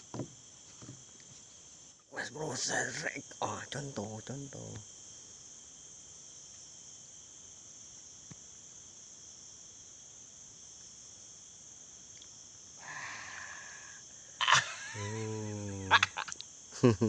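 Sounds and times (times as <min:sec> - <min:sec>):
chorus of crickets: 0:00.0 - 0:17.0.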